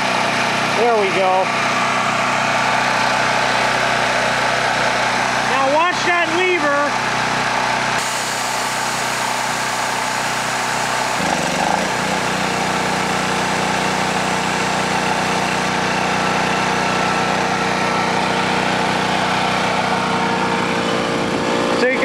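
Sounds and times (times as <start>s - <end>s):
small gasoline engine running: 0.0s - 22.0s.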